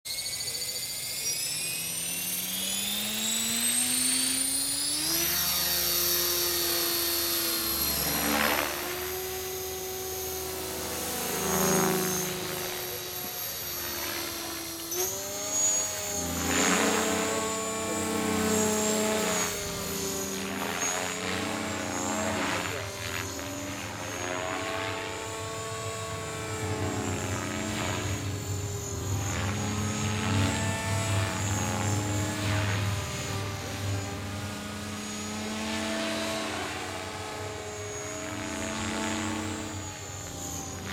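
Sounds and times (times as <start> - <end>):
rc helicopter motor whine: 0.0 - 40.9
rotor blade noise: 0.1 - 40.9.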